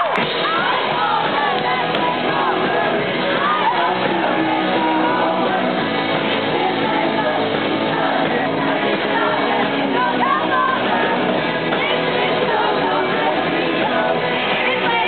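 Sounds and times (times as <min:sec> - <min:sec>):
person singing: 0:00.0 - 0:15.0
rock band playing live: 0:00.0 - 0:15.0
shouted voices: 0:00.0 - 0:15.0.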